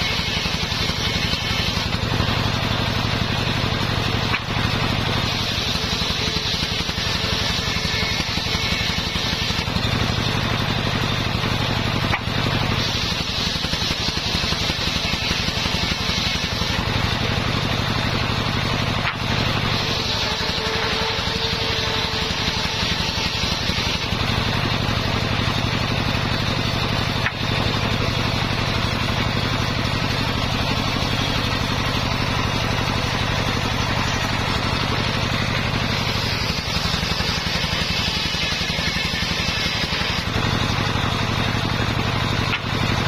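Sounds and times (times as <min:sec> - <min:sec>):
engine-driven circular saw running: 0:00.0 - 0:43.0
saw blade cutting wood: 0:00.0 - 0:43.0.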